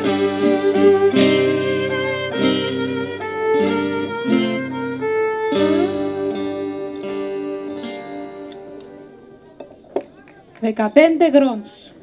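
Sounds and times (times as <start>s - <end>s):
violin playing folk tune: 0.0s - 9.7s
plucked lute: 0.0s - 10.4s.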